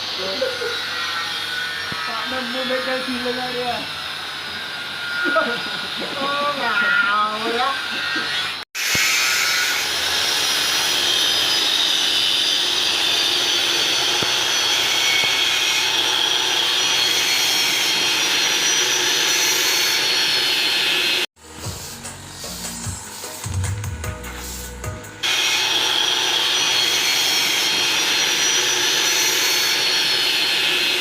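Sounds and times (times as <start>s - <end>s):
power tool grinding steel: 0.0s - 31.0s.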